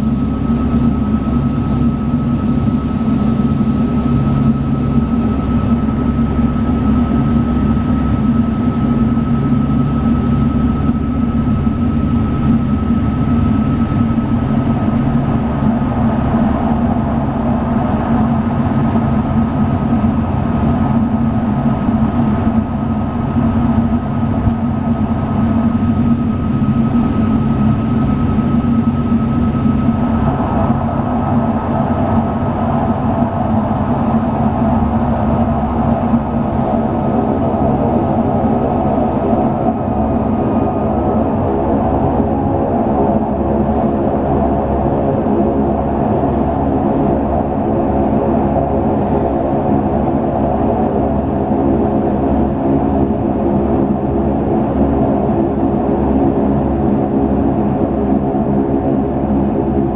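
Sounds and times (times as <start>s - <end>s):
thin steady whine: 0.0s - 59.9s
turboprop engines droning: 0.0s - 59.9s.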